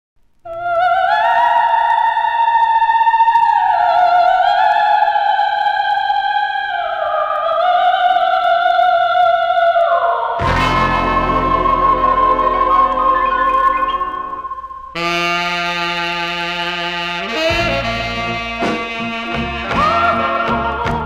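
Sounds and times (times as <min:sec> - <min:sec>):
theremin-like wail with vibrato: 0:00.5 - 0:21.0.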